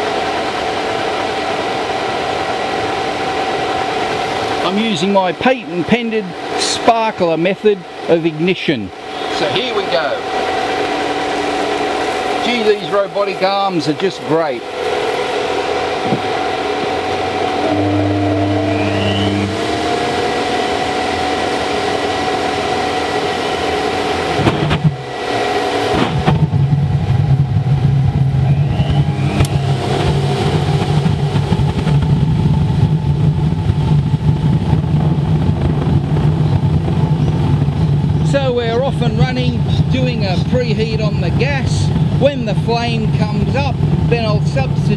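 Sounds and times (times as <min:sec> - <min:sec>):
burner blower humming: 0:00.0 - 0:44.9
deep burner rumble: 0:00.0 - 0:44.9.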